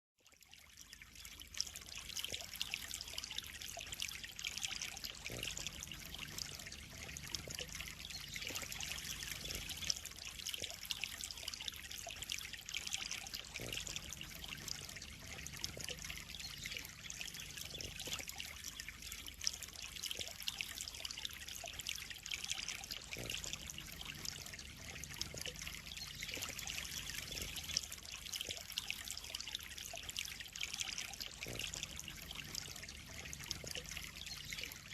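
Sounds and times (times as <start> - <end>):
water trickling into pond: 0.2 - 34.9.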